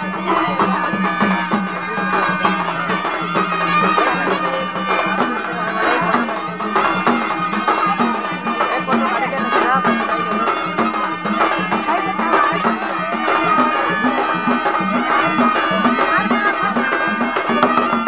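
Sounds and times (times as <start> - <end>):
percussion strikes: 0.0 - 18.0
reedy folk melody: 0.0 - 18.0.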